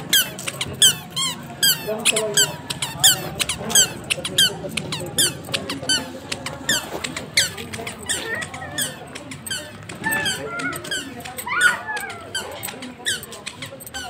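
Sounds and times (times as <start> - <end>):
squeaky shoes squeaking: 0.0 - 14.0.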